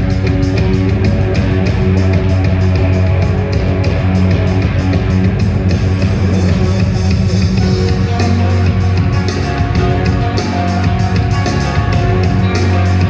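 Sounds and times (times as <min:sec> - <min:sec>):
live band music: 0:00.0 - 0:13.0.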